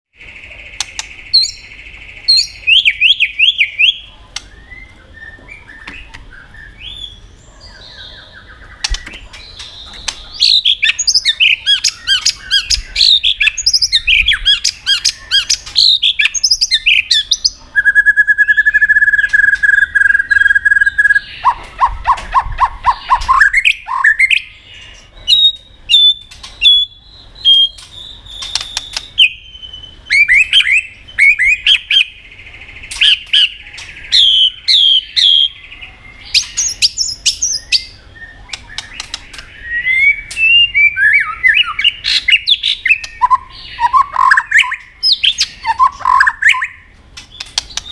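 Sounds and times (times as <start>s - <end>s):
songbird warbling and whistling: 0.2s - 47.9s.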